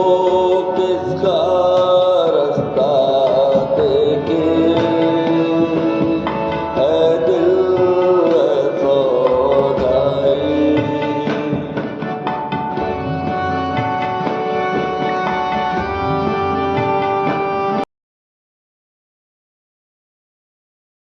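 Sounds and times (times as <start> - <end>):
instrumental acoustic song melody: 0.0 - 17.8.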